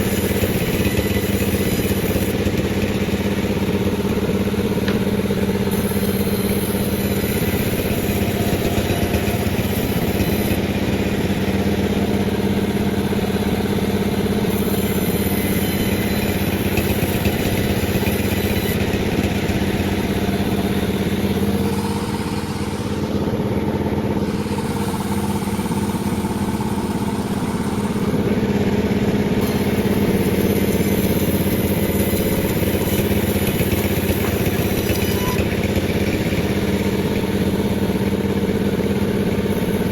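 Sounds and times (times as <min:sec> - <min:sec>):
chainsaw sawing a log: 0:00.0 - 0:39.9.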